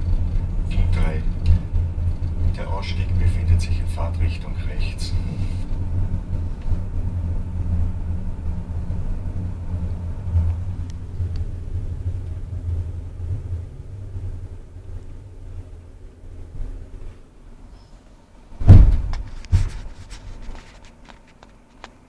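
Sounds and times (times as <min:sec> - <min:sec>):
train rumbling: 0:00.0 - 0:21.1.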